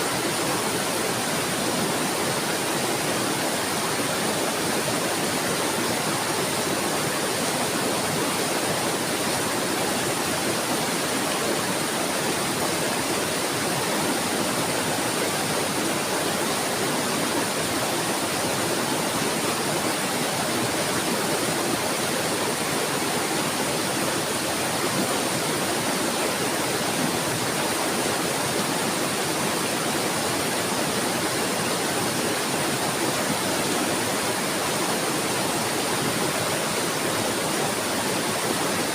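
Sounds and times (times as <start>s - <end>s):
flowing water babbling: 0.0s - 38.9s.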